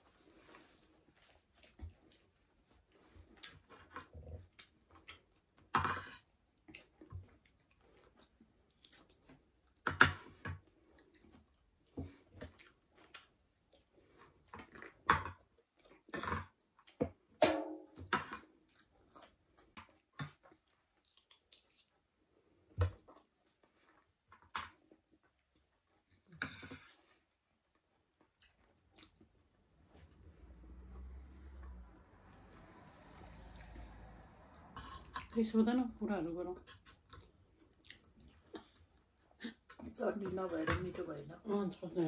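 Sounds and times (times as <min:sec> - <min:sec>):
chewing and crunching food: 0:00.0 - 0:17.4, 0:18.0 - 0:42.0.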